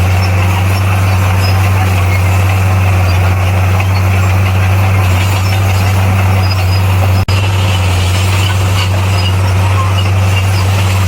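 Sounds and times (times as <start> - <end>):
bulldozer engine droning: 0.0 - 11.0.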